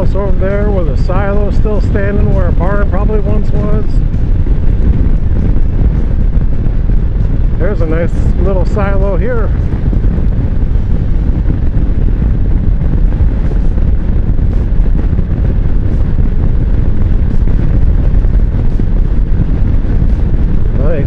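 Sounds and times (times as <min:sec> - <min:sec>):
motorcycle engine: 0:00.0 - 0:21.0
road noise: 0:00.0 - 0:21.0
wind noise on microphone: 0:00.0 - 0:21.0.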